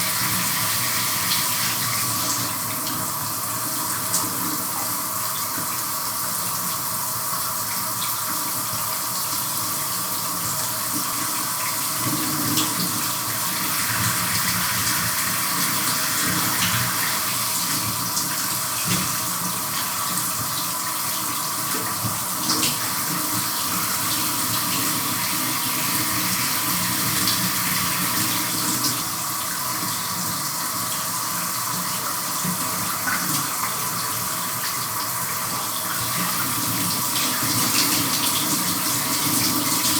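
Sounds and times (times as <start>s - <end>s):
shower running: 0.0s - 39.9s.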